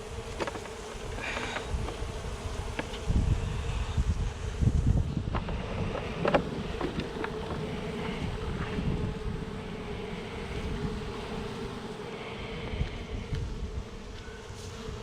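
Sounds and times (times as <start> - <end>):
bees buzzing: 0.0 - 15.0
wind buffeting microphone: 0.0 - 15.0.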